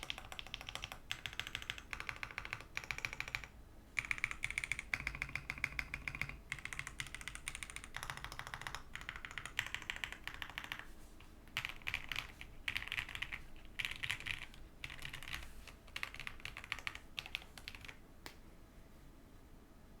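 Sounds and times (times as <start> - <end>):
mechanical keyboard typing: 0.0 - 10.9, 11.5 - 18.0.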